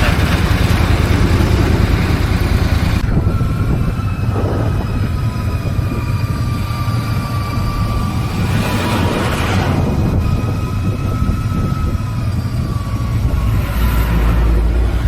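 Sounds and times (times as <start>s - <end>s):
engine whine: 0.0s - 15.0s
motorcycle engine rumbling: 0.0s - 15.0s.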